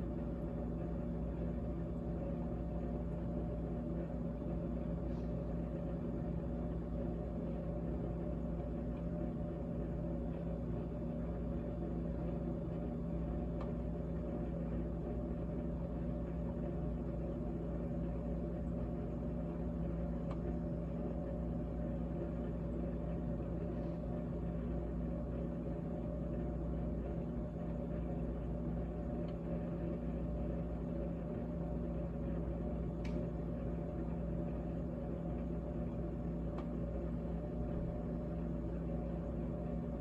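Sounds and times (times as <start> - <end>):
refrigerator humming: 0.0 - 40.0.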